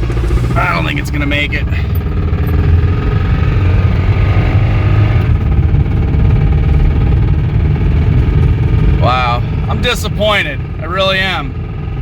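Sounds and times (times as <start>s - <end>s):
engine running at full throttle: 0.0s - 12.0s.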